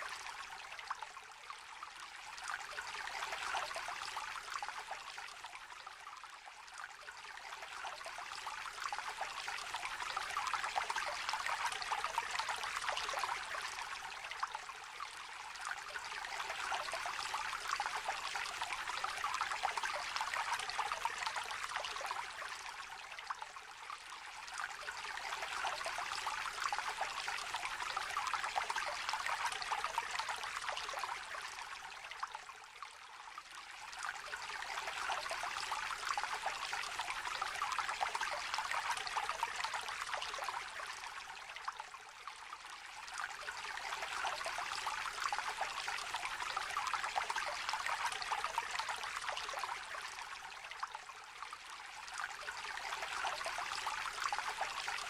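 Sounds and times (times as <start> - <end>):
shallow stream babbling: 0.0 - 55.0.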